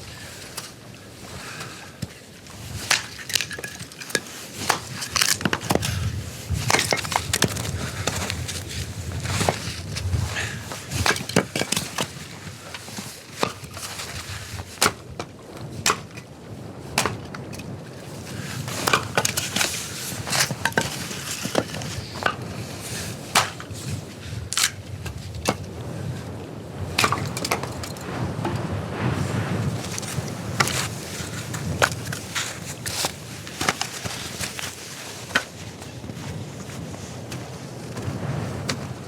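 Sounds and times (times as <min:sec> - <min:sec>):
low rumble of burning: 0:00.0 - 0:39.0
wood fire crackling: 0:00.2 - 0:39.0.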